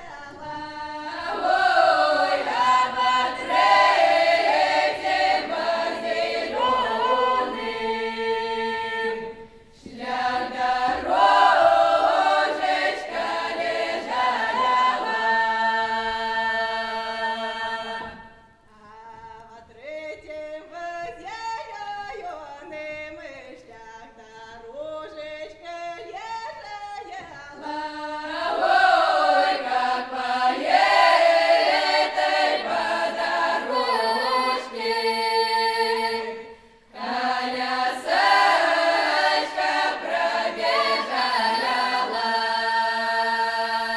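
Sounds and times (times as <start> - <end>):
choir singing a cappella: 0.0 - 43.9.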